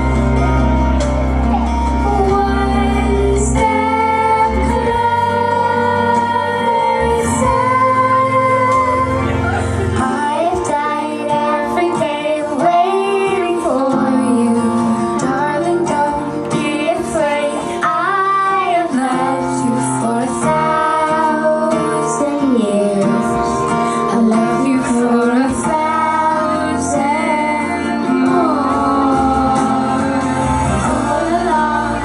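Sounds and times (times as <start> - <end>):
backing music: 0.0 - 32.0
girl singing into a microphone: 1.6 - 32.0.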